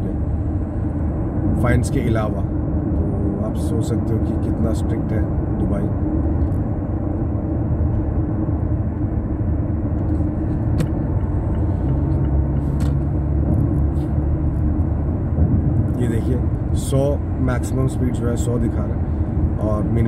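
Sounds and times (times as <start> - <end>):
car road and engine rumble: 0.0 - 20.0
low hum: 0.0 - 20.0.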